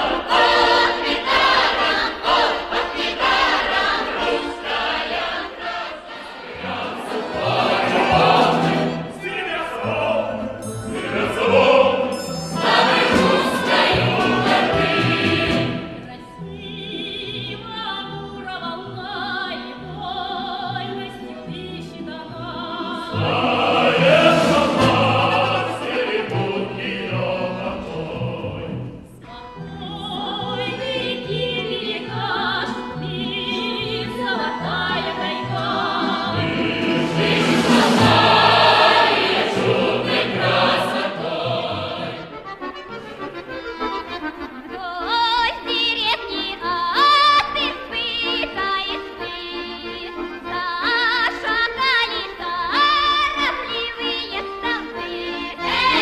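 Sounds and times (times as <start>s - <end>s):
choir singing: 0.0s - 43.6s, 53.6s - 56.0s
button accordions: 0.0s - 56.0s.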